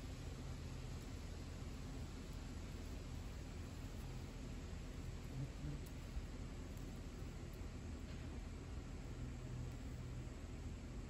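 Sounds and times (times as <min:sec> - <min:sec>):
soft hiss: 0:00.0 - 0:11.0.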